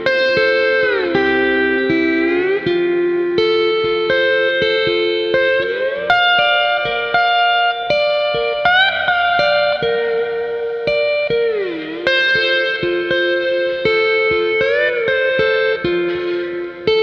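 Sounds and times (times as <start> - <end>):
slide guitar music: 0.0 - 17.0.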